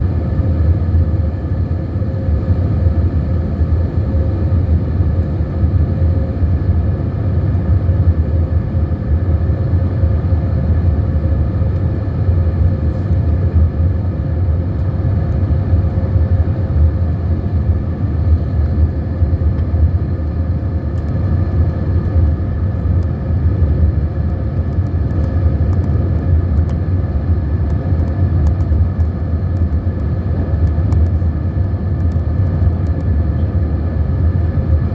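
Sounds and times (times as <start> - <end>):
deep rumble of airflow and engines: 0.0 - 34.9.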